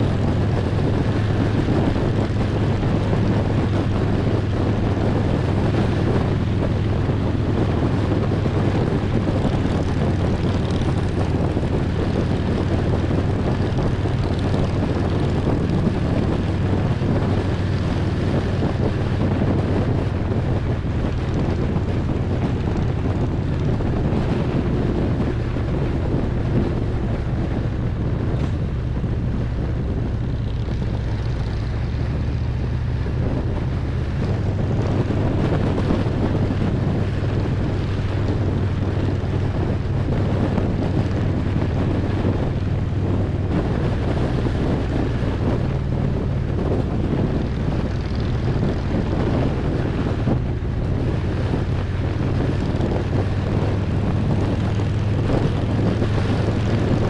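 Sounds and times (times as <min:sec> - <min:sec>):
motorcycle engine cruising: 0:00.0 - 0:57.0
wind on microphone: 0:00.0 - 0:57.0.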